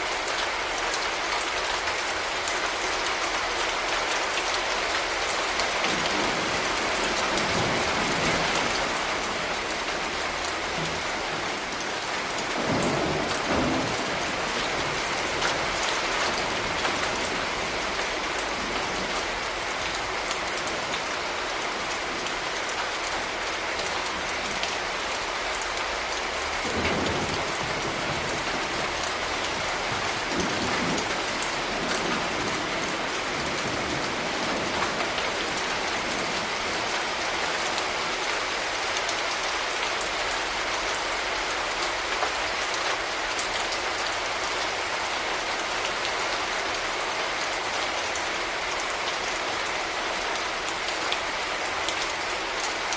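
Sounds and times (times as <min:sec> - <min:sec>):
heavy rain on hard surfaces: 0:00.0 - 0:52.9.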